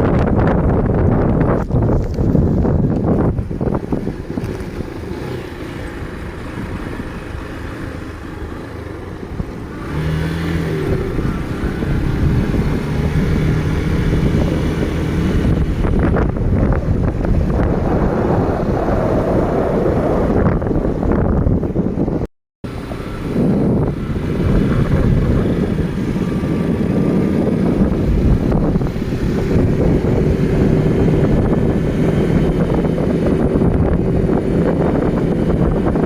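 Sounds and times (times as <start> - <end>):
vehicle engine running: 0.0 - 19.8, 22.7 - 36.0
wind on microphone: 0.0 - 36.0.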